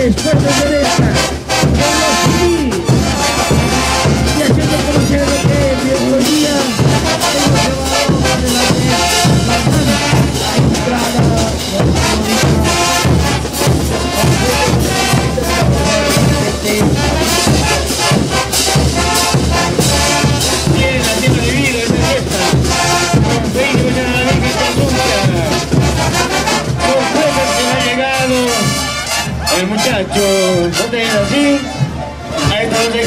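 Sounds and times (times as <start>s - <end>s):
bass drums and hand cymbals: 0.0s - 31.9s
brass band playing: 0.0s - 33.0s.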